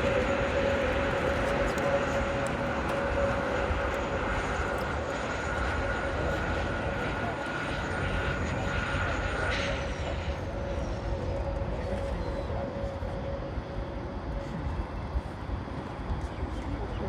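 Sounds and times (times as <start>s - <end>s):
high engine whine: 0.0s - 17.0s
jet engines rumbling: 0.0s - 17.0s.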